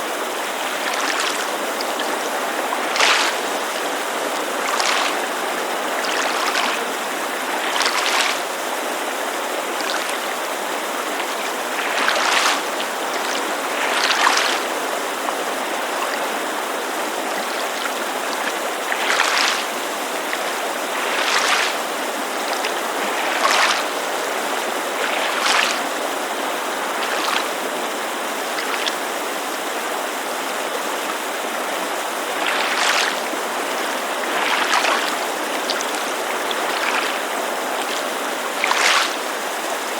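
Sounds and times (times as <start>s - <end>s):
mountain creek rushing: 0.0s - 39.9s
waves lapping against shore: 0.0s - 39.9s.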